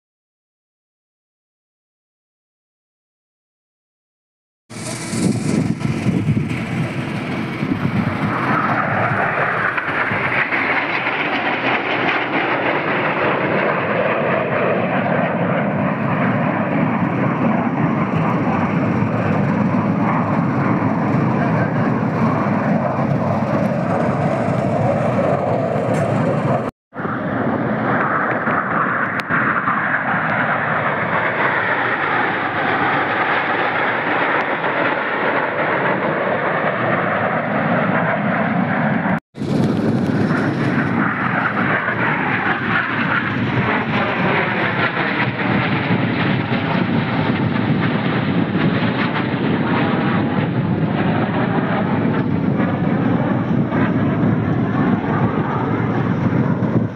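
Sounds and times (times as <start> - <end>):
jet roar overhead: 4.7 - 56.9.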